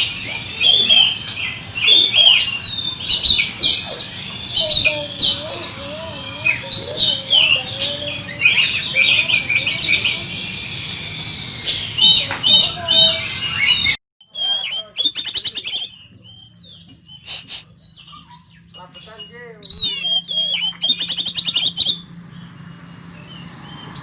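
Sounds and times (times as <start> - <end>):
bird singing harsh chattering trills: 0.0 - 24.0.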